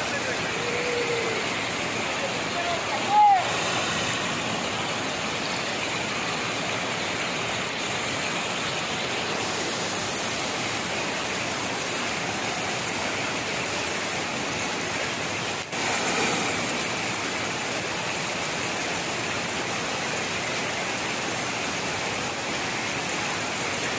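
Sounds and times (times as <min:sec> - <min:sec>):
water rushing over weir: 0:00.0 - 0:23.9.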